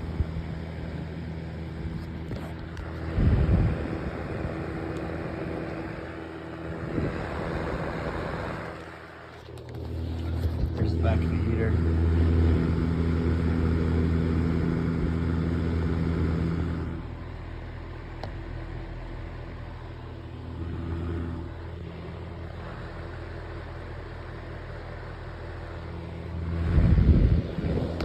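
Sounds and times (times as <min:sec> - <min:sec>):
fan heater blower humming: 0:00.0 - 0:28.0.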